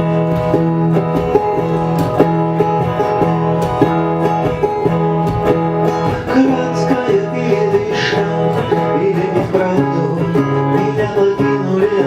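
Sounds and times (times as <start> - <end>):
plucked guitar playing: 0.0 - 12.0.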